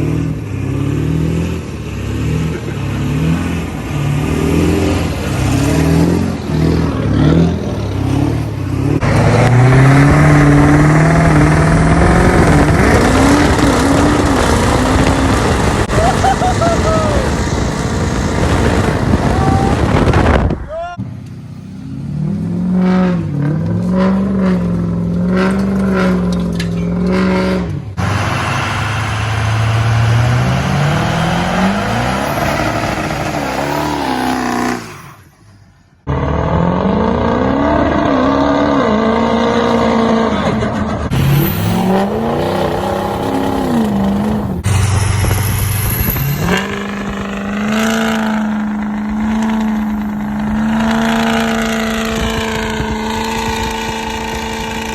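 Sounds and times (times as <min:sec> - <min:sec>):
diesel pickup truck engine revving: 0:00.0 - 0:54.9.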